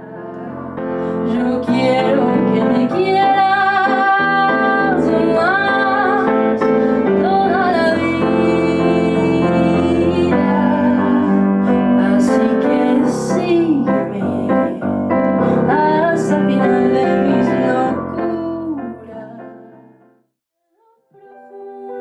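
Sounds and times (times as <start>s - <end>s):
woman singing: 0.0s - 19.9s, 20.8s - 22.0s
piano music: 0.0s - 20.2s, 21.2s - 22.0s.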